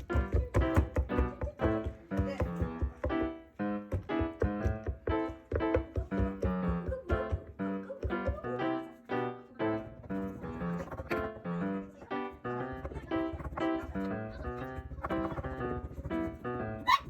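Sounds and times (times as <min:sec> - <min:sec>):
light keyboard tune: 0:00.0 - 0:16.9.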